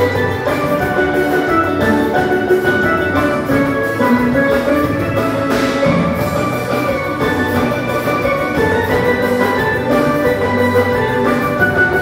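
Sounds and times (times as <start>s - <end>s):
steady drum beat: 0.0s - 12.0s
sustained melodic instrument notes: 0.0s - 12.0s.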